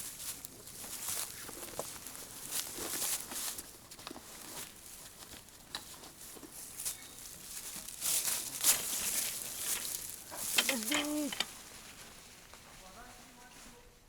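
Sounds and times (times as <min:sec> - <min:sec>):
rustling and crackling: 0:00.0 - 0:13.8.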